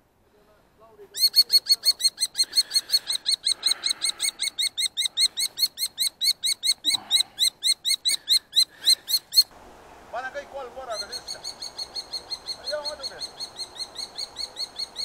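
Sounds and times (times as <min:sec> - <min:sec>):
kestrel alarm calls: 0:01.1 - 0:09.5, 0:10.8 - 0:15.0.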